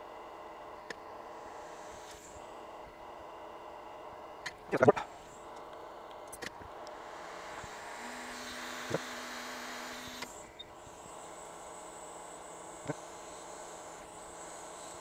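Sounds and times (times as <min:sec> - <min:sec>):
equipment hiss and hum: 0:00.0 - 0:15.0
faint high whine: 0:00.0 - 0:15.0.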